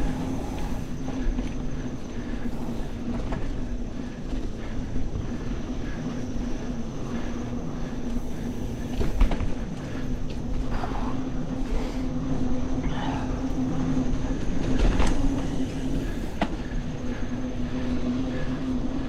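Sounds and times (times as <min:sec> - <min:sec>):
bike clicks and rattles: 0:00.0 - 0:19.0
bike tires humming on dirt: 0:00.0 - 0:19.0.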